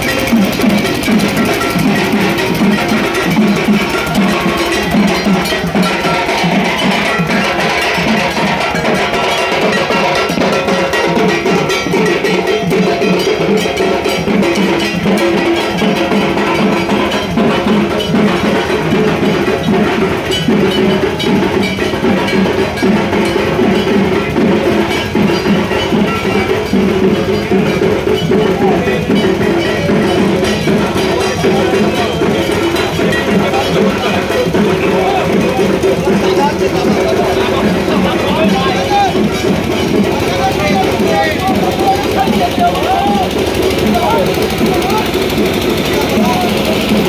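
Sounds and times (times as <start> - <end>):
clanging metal percussion: 0.0 - 47.0
procession drums: 0.0 - 47.0.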